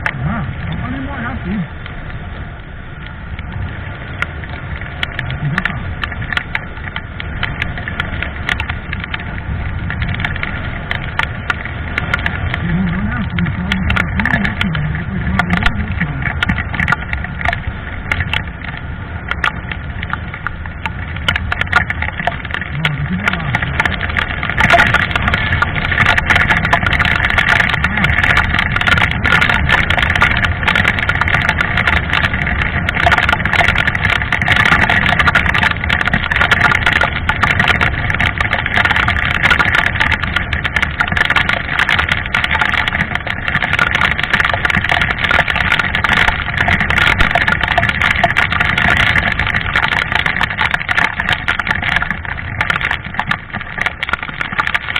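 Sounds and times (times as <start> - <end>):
road noise: 0.0 - 54.9.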